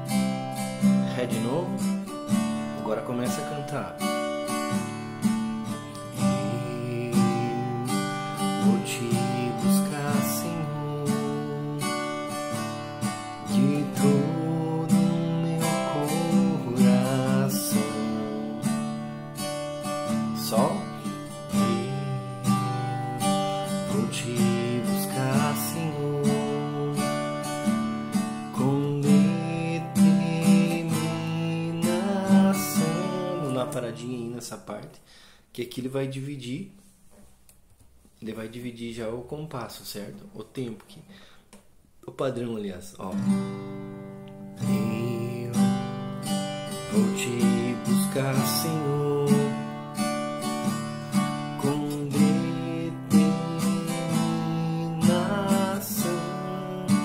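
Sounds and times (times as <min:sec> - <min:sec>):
acoustic guitar strumming: 0:00.0 - 0:34.6, 0:43.0 - 0:57.0.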